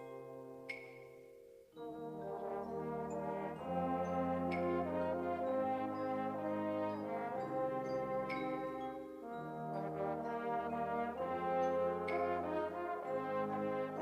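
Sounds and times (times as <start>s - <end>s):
wind band playing brass chords: 1.8s - 14.0s.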